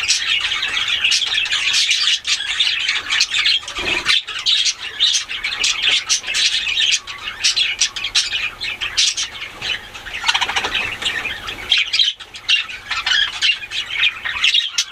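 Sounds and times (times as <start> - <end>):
budgerigars chattering and squawking: 0.0 - 14.9.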